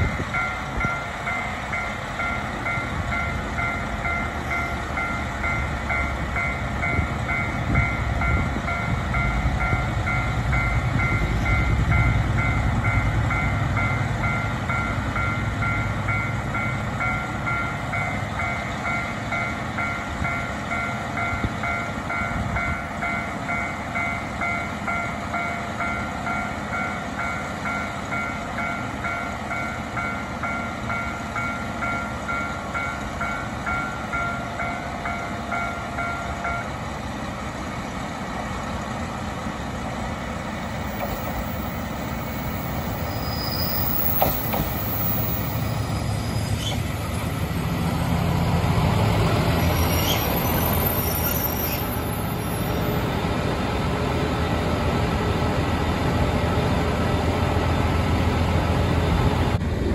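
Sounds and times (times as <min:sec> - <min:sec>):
diesel railcar engine idling: 0:00.0 - 0:59.9.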